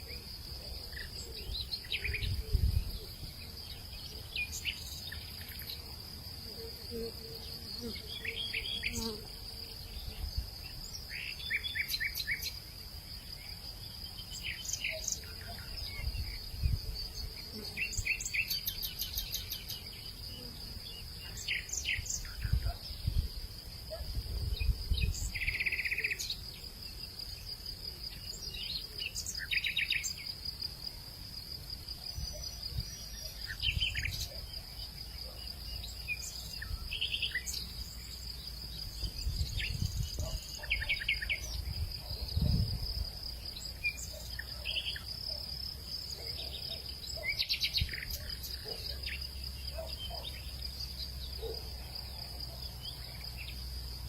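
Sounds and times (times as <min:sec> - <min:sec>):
pulsing insect trill: 0:00.0 - 0:54.0.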